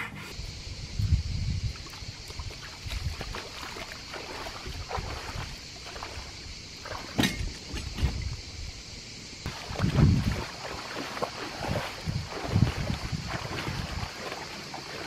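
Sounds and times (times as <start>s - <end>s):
water splashing and sloshing: 1.6s - 15.0s.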